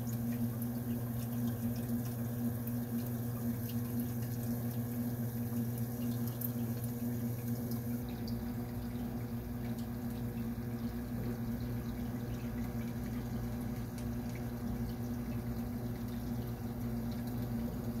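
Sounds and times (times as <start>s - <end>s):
low electric hum: 0.0s - 18.0s
water bubbling and trickling: 0.0s - 18.0s.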